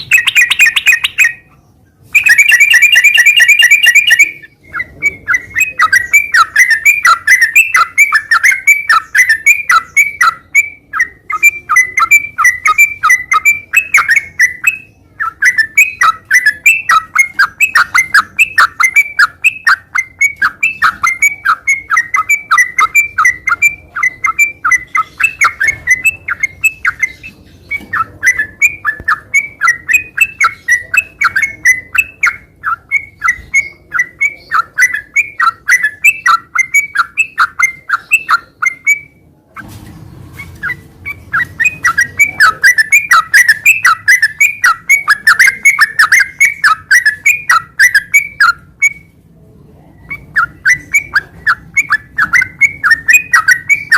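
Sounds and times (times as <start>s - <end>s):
bird singing whistled notes: 0.0s - 39.2s, 40.4s - 49.2s, 49.9s - 53.9s.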